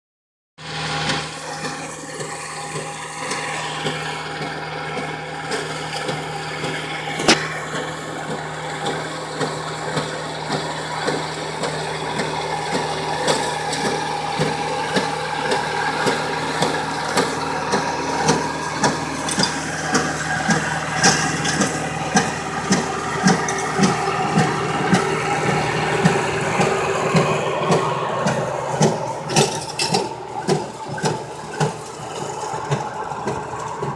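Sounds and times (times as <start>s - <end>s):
tractor diesel engine running: 0.8s - 33.9s.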